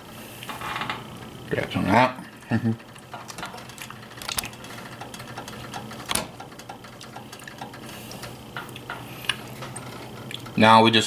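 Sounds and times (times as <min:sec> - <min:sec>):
steady low hum: 0:00.0 - 0:11.0
butter frying crackle: 0:00.1 - 0:10.6.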